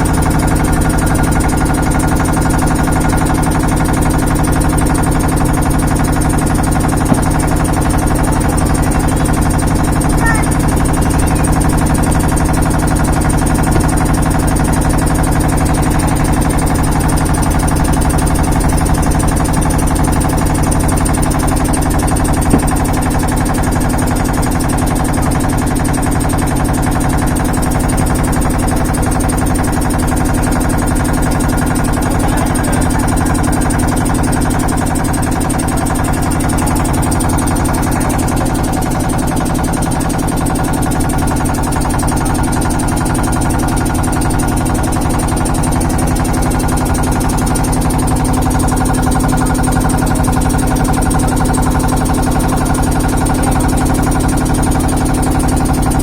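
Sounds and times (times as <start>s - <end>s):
mechanical drone with low hum: 0.0s - 56.0s.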